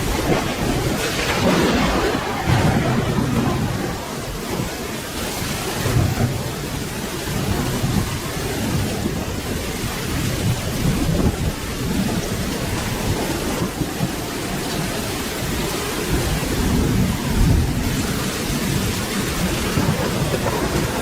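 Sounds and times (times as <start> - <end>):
rolling thunder rumble: 0.0 - 21.0
steady rainfall: 0.0 - 21.0.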